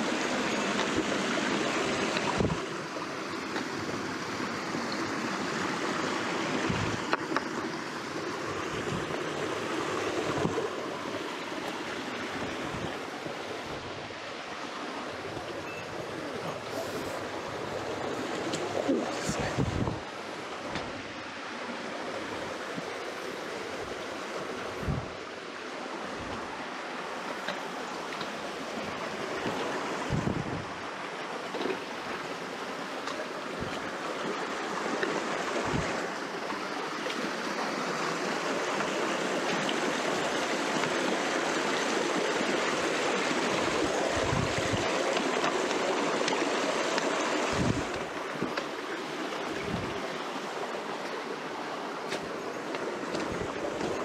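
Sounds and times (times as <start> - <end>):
stream babbling over rocks: 0.0 - 54.0.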